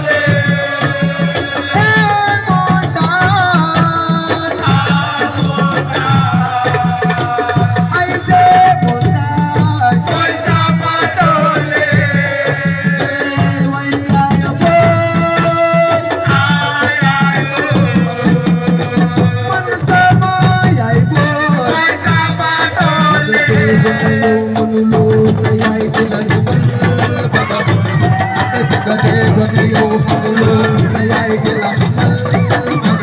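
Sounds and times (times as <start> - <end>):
fast dense drumming: 0.0 - 33.0
person singing: 0.0 - 33.0.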